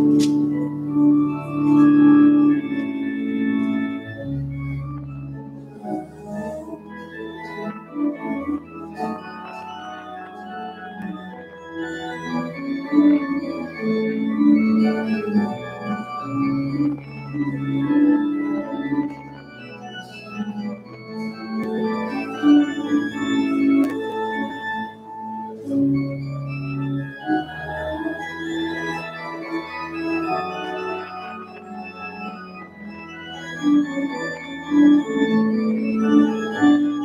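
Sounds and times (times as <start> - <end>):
organ playing slow chords: 0.0 - 37.0.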